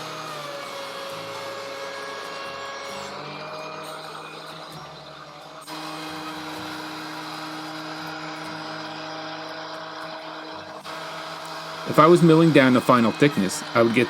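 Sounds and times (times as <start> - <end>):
thickness planer running: 0.0 - 14.0.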